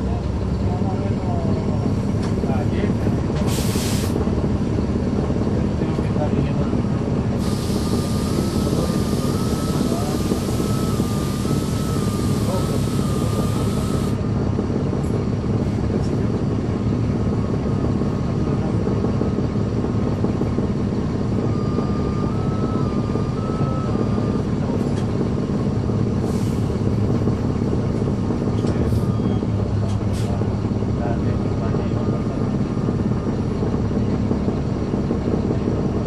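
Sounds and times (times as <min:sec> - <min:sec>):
bus diesel engine running: 0:00.0 - 0:36.0.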